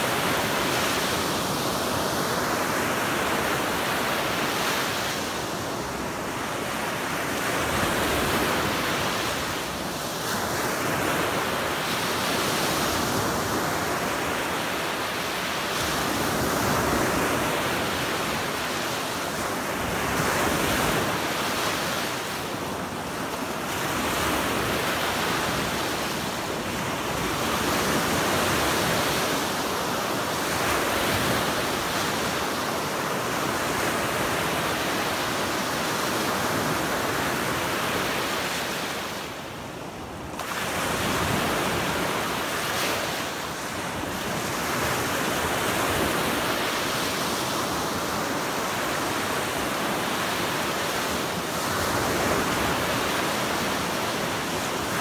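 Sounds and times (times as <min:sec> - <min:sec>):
waves washing up beach: 0:00.0 - 0:55.0.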